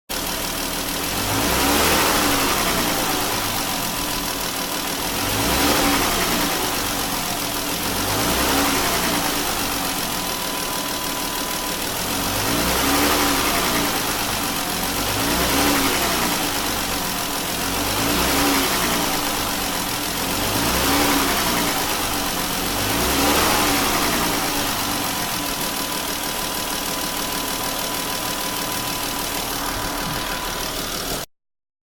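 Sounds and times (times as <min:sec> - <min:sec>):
car engine revving and idling: 0:00.1 - 0:31.3
engine knocking: 0:00.1 - 0:31.3.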